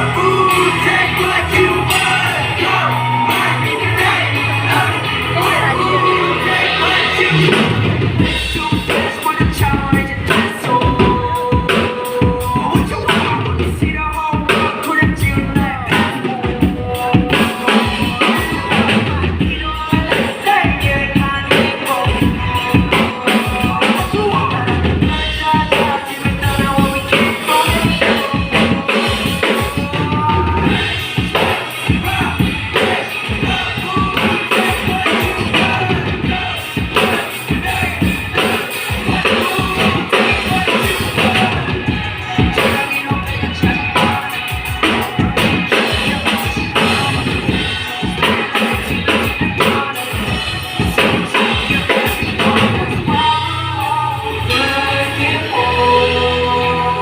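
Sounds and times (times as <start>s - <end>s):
backing music: 0.0s - 57.0s
drum kit playing: 0.0s - 57.0s
song playing: 0.0s - 57.0s.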